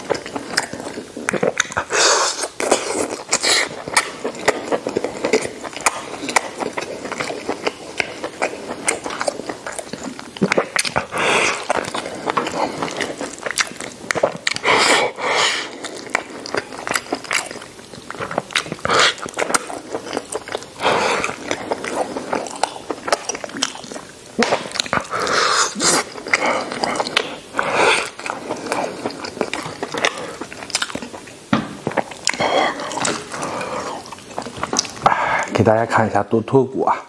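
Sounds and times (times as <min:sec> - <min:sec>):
man chewing food: 0:00.0 - 0:35.8.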